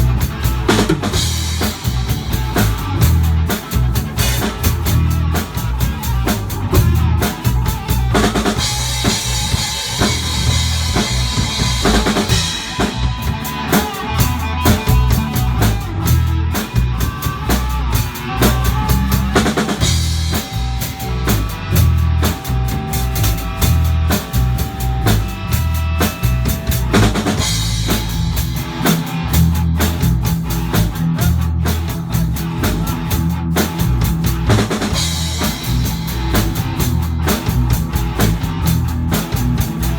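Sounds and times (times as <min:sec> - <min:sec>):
band playing live: 0:00.0 - 0:39.9
bass: 0:00.0 - 0:39.9
drum kit kick and snare beat: 0:00.0 - 0:39.9.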